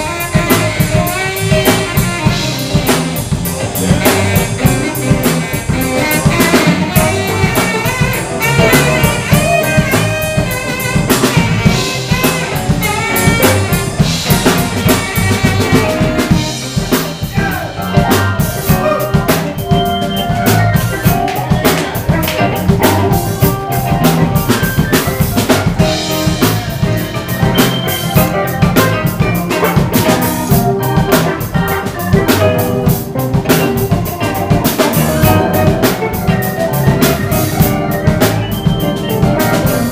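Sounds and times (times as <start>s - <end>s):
drum kit beat: 0.0s - 39.9s
electric bass: 0.0s - 39.9s
electric guitar: 0.0s - 39.9s
saxophone lead: 0.0s - 39.9s.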